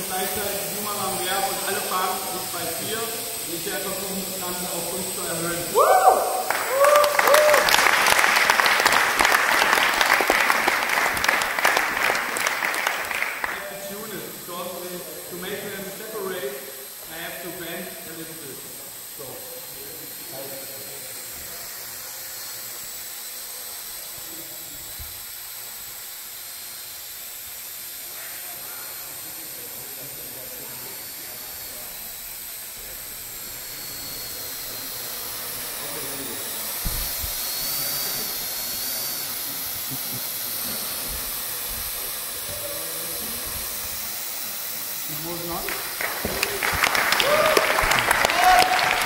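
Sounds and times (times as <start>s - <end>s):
faint high whine: 0.0s - 49.0s
steady hiss: 0.0s - 49.0s.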